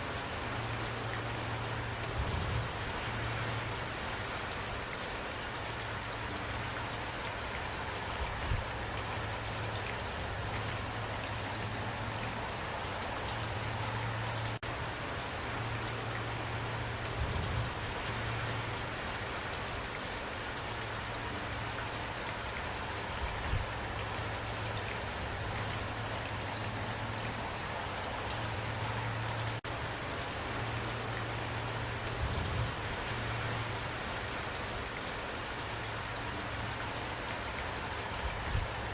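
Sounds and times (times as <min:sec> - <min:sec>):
steady rain on a surface: 0:00.0 - 0:38.9.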